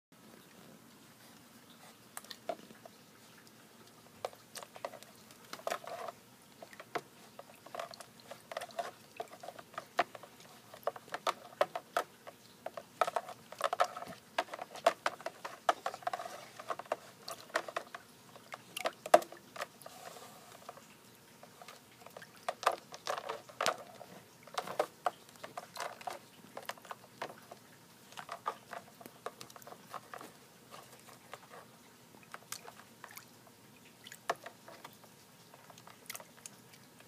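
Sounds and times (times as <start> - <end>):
small water splashes: 1.7 - 37.0
clicks and knocks in water: 2.1 - 19.9, 20.5 - 37.0.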